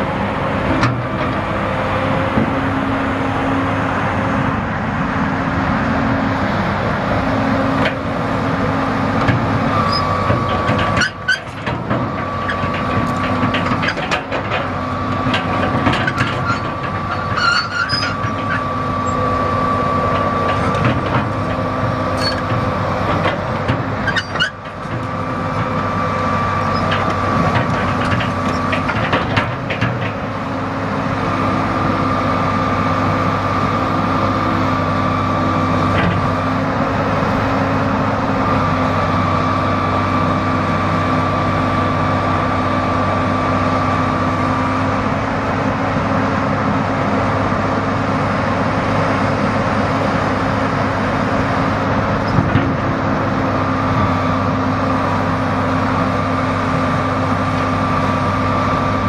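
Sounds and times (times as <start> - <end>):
diesel excavator engine running: 0.0 - 59.0.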